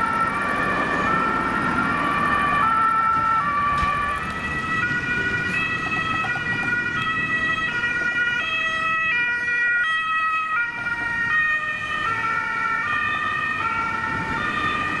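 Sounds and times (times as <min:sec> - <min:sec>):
road traffic rumble: 0:00.0 - 0:15.0
two-tone ambulance siren: 0:00.0 - 0:15.0.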